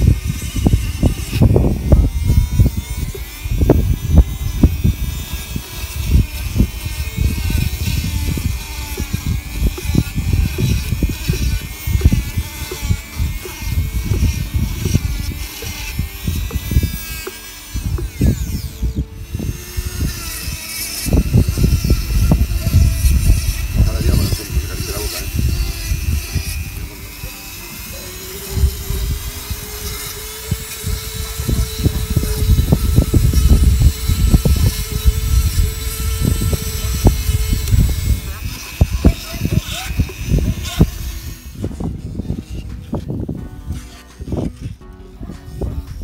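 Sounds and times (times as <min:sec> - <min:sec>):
motorized dental float whining: 0:00.0 - 0:46.0
rasp grinding against teeth: 0:00.0 - 0:46.0.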